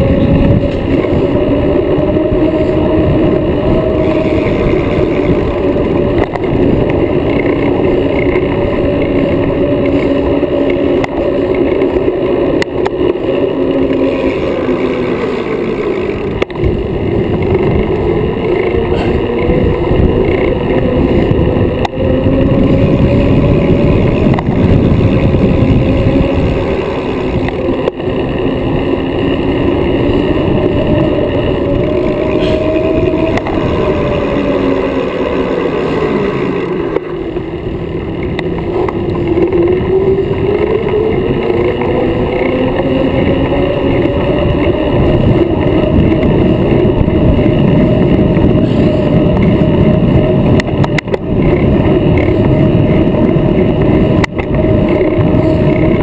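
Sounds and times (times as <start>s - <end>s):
whining tone: 0.0s - 56.0s
wind rushing over camera: 0.0s - 56.0s.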